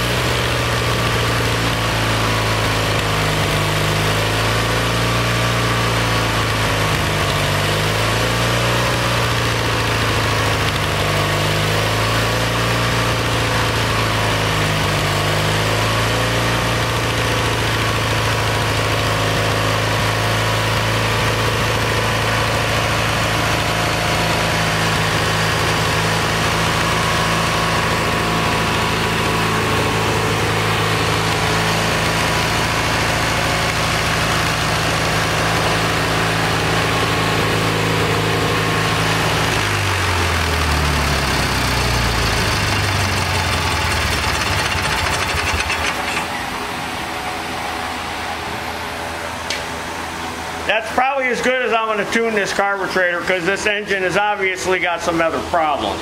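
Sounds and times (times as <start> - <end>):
small engine running rough: 0.0 - 56.0.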